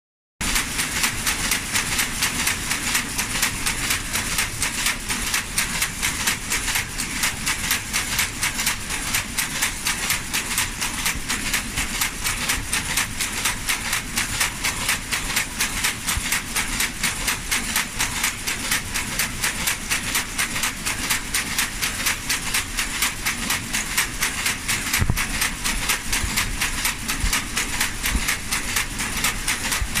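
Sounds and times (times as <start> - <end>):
lace machine clattering: 0.5 - 30.0.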